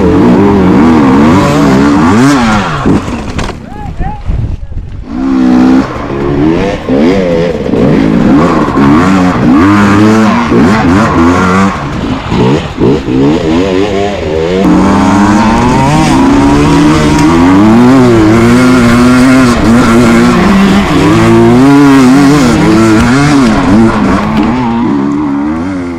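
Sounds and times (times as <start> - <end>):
motorcycle engine revving: 0.0 - 3.6, 5.0 - 25.9.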